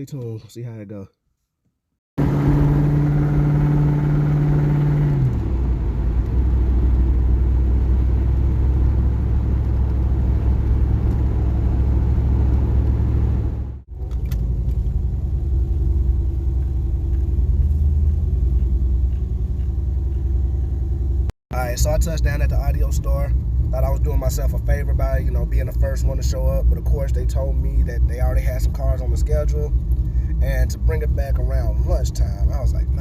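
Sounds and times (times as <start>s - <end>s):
car engine humming: 2.2s - 33.0s
road rumble: 2.2s - 33.0s.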